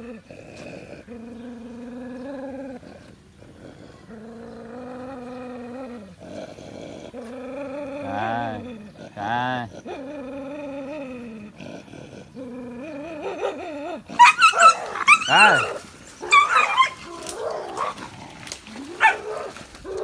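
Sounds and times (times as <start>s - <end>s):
dogs growling: 0.0s - 20.0s
dogs yelping and snarling: 0.0s - 20.0s.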